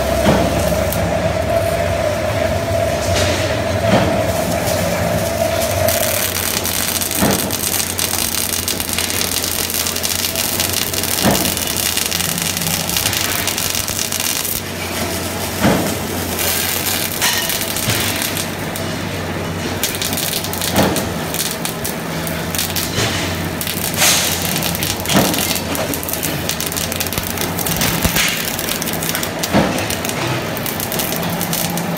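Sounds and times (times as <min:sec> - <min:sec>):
welding arc crackling hiss: 0:00.0 - 0:31.9
welding pops: 0:05.5 - 0:31.9.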